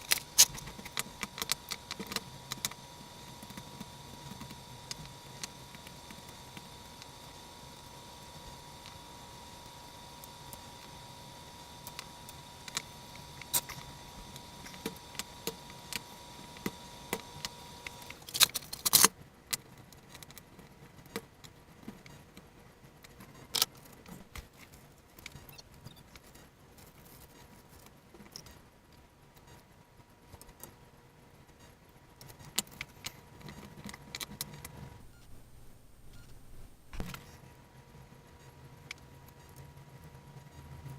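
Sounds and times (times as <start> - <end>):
faint steady whine: 0.0 - 40.9.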